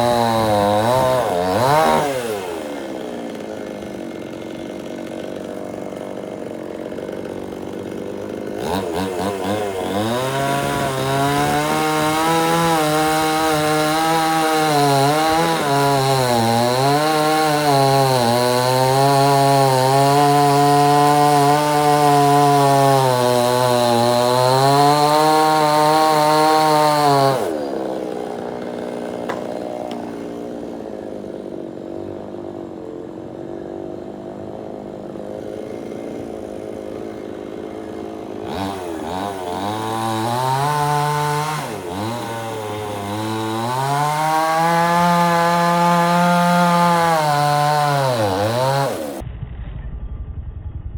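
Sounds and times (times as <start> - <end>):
chainsaw cutting wood: 0.0 - 49.2.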